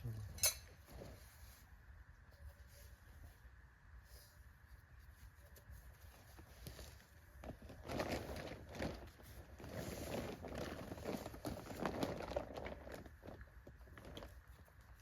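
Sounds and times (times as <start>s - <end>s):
tent fabric rustling: 2.4s - 15.0s.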